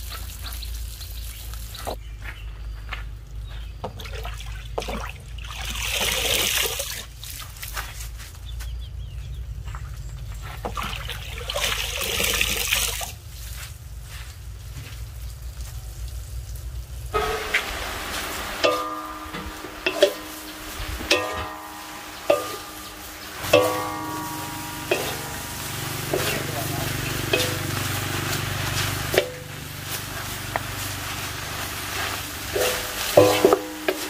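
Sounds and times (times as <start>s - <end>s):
water trickling and splashing: 0.0s - 2.0s, 3.3s - 8.4s, 9.5s - 34.0s.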